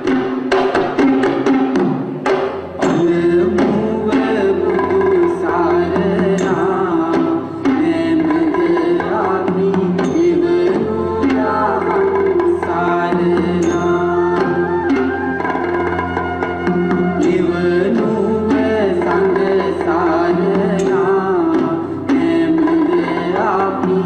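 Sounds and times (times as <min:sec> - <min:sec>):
hand-drum strokes: 0:00.0 - 0:24.0
wavering melody: 0:02.9 - 0:24.0.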